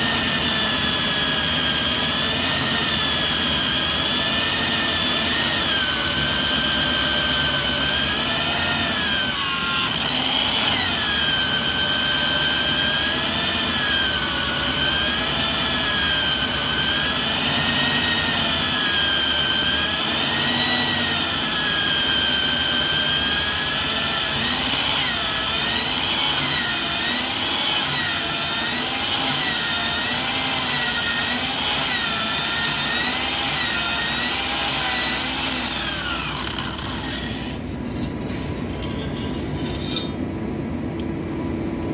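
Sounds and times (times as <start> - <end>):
core drilling machine motor whining: 0.0 - 40.1.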